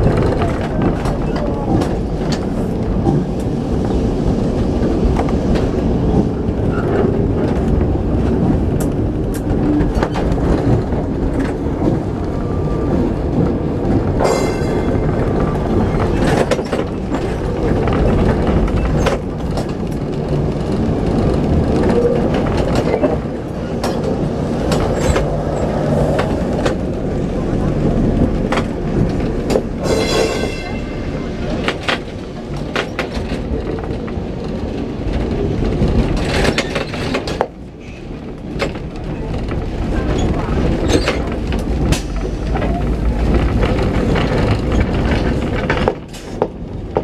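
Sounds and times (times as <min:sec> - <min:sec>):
tram wheels and motor rumbling: 0:00.0 - 0:47.0.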